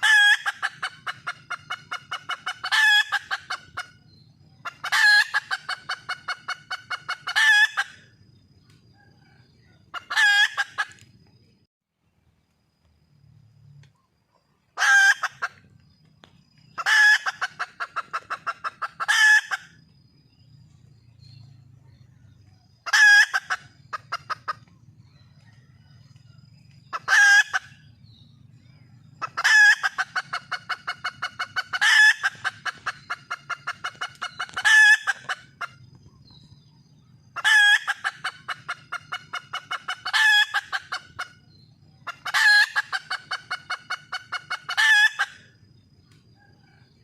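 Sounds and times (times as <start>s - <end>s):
hen calling and clucking: 0.0s - 11.2s, 13.9s - 46.9s.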